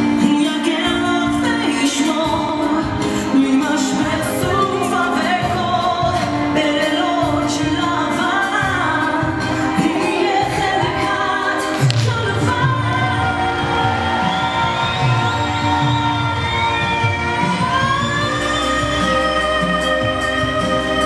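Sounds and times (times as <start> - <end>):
instrumental accompaniment: 0.0 - 21.0
woman singing a slow ballad: 0.0 - 21.0.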